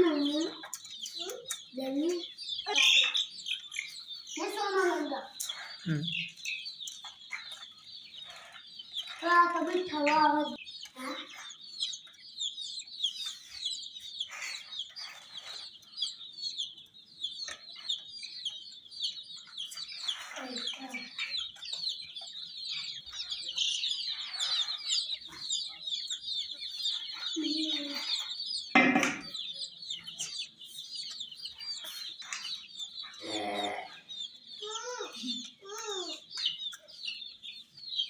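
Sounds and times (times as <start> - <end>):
baby chicks peeping: 0.0 - 38.0.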